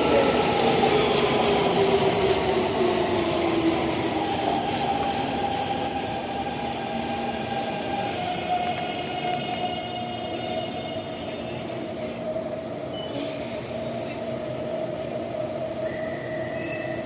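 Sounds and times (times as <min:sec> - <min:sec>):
train rail rumble and hiss: 0:00.0 - 0:17.0.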